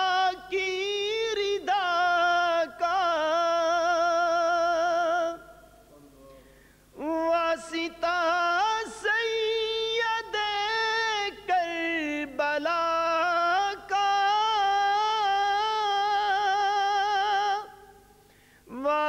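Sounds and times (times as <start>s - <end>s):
man singing unaccompanied: 0.0s - 5.8s, 6.9s - 19.0s.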